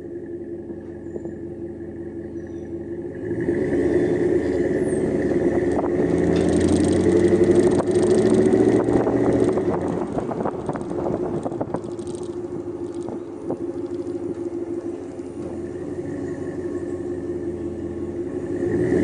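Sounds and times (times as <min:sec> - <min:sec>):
truck engine exhaust rumble: 0:00.0 - 0:19.0.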